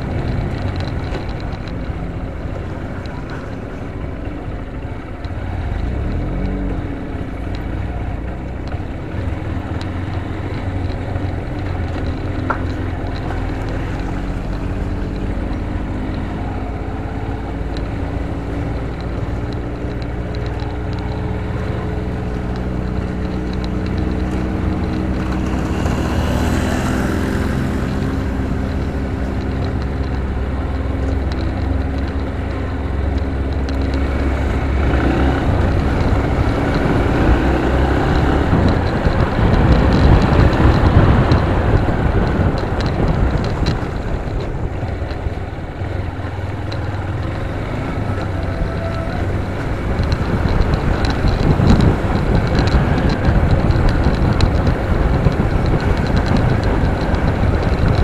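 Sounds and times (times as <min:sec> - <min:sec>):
motorcycle engine running: 0:00.0 - 0:58.0
wind rumbling on microphone: 0:00.0 - 0:58.0.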